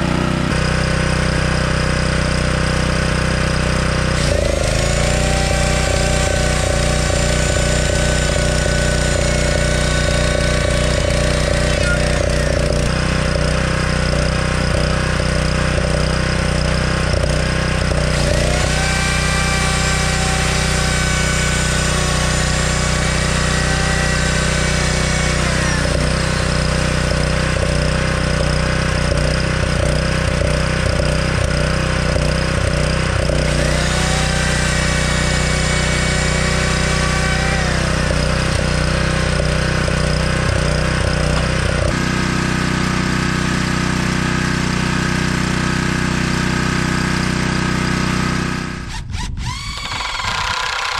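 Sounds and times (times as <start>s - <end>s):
gas generator running: 0.0s - 50.9s
electric router whining: 3.8s - 30.5s, 32.1s - 43.8s, 47.6s - 50.9s.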